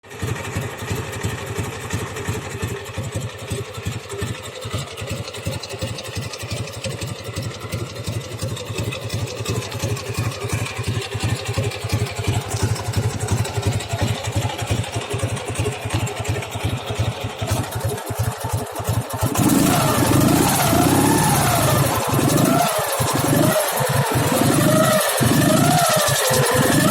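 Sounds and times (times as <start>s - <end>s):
motorcycle engine idling: 0.0s - 26.9s.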